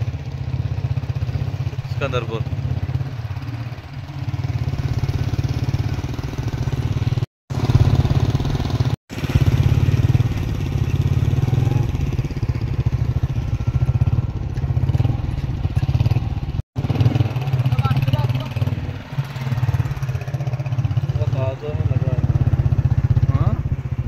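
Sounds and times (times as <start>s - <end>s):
small motorcycle engine running: 0.0s - 24.0s.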